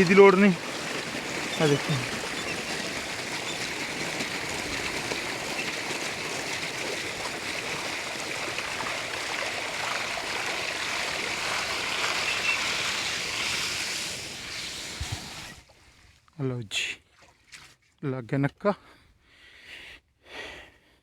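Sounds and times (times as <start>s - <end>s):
water running through channel: 0.0s - 18.2s.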